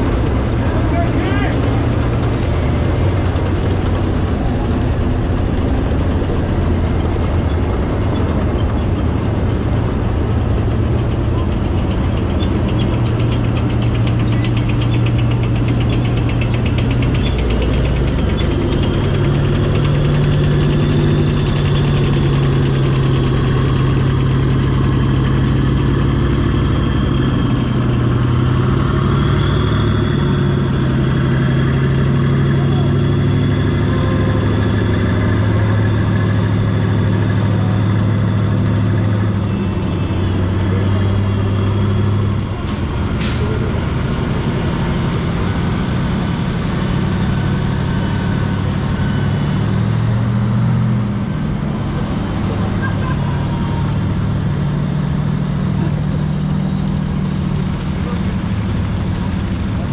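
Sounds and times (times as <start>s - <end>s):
heavy diesel vehicles driving past: 0.0s - 59.9s.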